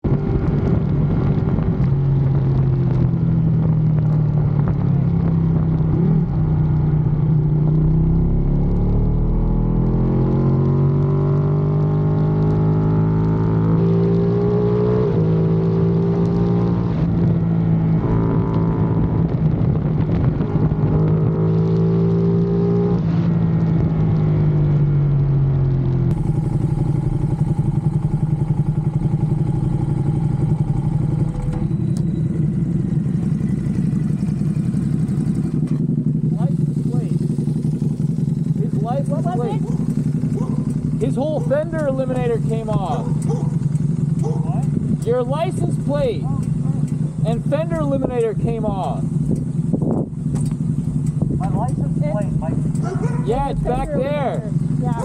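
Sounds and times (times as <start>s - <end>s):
wind rumble: 0.0s - 11.2s, 16.8s - 22.4s, 23.0s - 36.3s, 36.9s - 55.0s
motorcycle engine revving: 0.0s - 55.0s.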